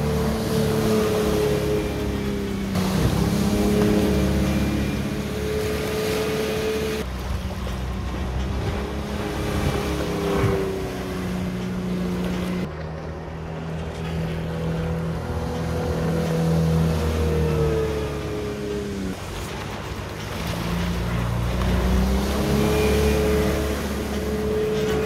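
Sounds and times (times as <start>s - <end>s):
speedboat engine passing: 0.0s - 25.0s
water rushing from hull: 0.0s - 25.0s.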